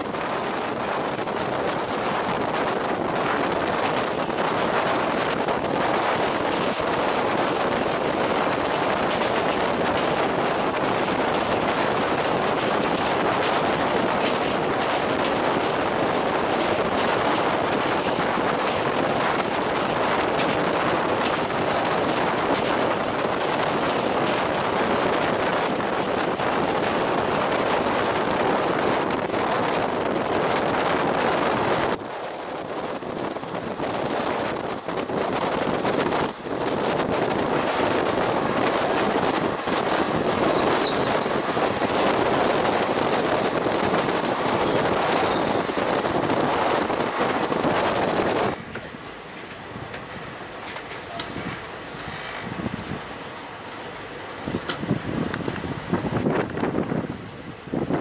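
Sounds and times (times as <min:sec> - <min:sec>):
train wheels clattering on rails: 0:00.0 - 0:57.5
rushing wind: 0:00.0 - 0:58.0.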